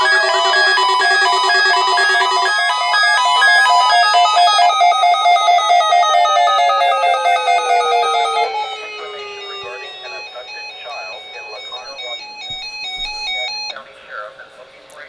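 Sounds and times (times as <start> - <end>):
falling synth pitch sweeps: 0.0 - 12.5
fast repeating synth notes: 0.0 - 12.5.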